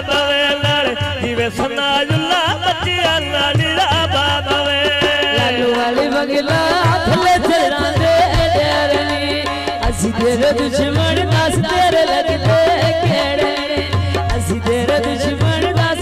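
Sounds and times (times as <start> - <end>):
hand drums playing: 0.0 - 16.0.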